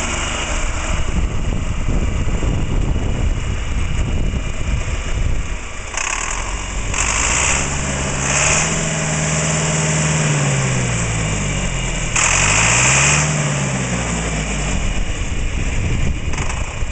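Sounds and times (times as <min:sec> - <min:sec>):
tractor diesel engine revving: 0:00.0 - 0:16.9.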